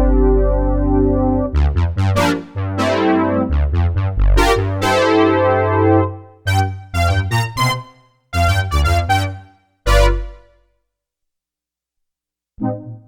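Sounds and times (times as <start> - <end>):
synthesizer chords and notes: 0.0 - 10.6.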